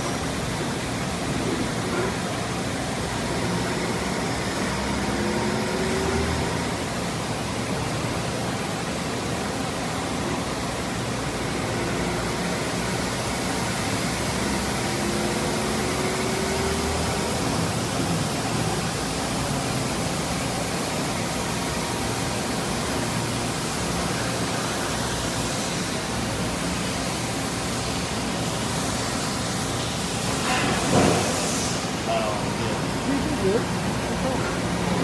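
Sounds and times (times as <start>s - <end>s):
coolant spraying hiss: 0.0s - 35.0s.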